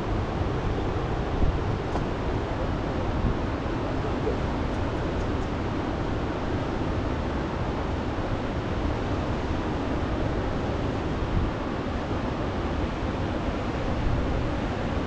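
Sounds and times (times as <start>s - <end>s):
river rushing in flood: 0.0s - 15.0s.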